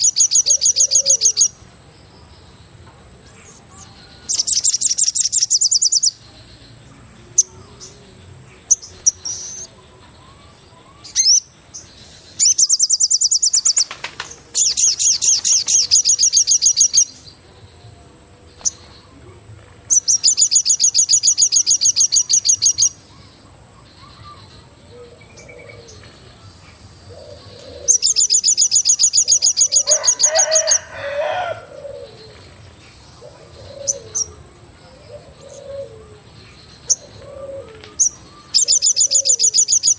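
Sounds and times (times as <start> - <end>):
soft bird calls and cooing: 0.0 - 1.8, 7.3 - 39.9
steady high insect whine: 0.0 - 39.9.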